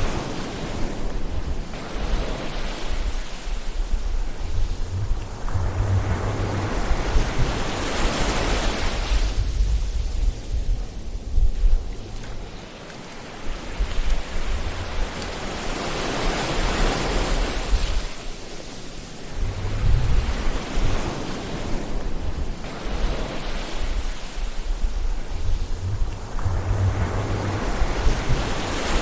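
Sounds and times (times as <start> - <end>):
low rumble of surf: 0.0 - 29.0
waves washing in: 0.0 - 29.0.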